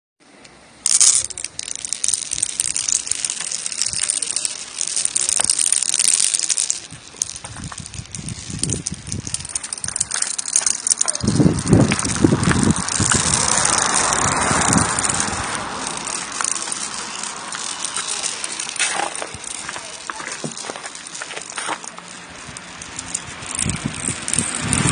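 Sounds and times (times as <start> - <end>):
marbles clattering down stone run: 0.8 - 24.9
heavier rumble: 1.2 - 24.9.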